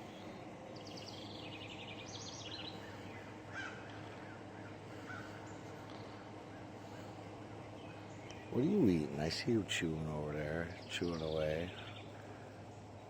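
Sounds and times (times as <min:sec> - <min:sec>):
small birds calling: 0:00.0 - 0:13.0
steady low hum: 0:00.0 - 0:13.0.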